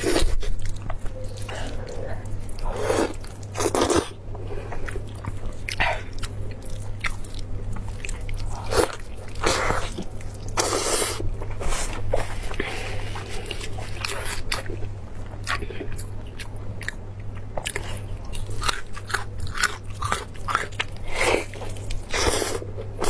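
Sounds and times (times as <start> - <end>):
chewing meat: 0.0 - 23.0.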